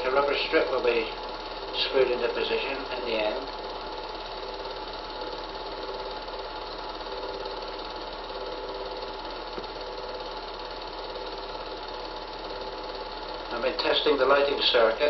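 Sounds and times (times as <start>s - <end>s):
film projector whirr and rattle: 0.0s - 15.0s
low mains hum: 0.0s - 15.0s.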